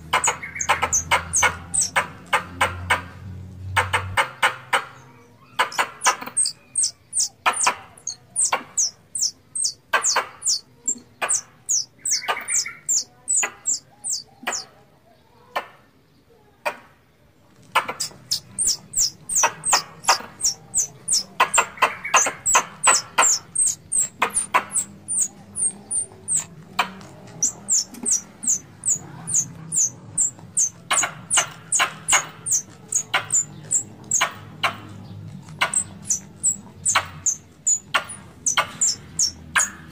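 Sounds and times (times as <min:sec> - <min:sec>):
squirrel chattering calls: 0:00.0 - 0:14.7, 0:17.7 - 0:39.9.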